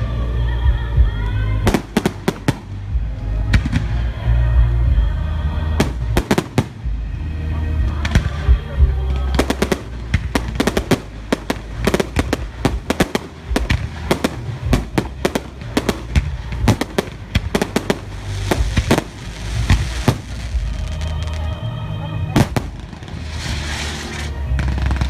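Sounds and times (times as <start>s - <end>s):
low rumble: 0.0s - 25.0s
fireworks bangs and crackling: 1.6s - 4.9s, 5.7s - 25.0s.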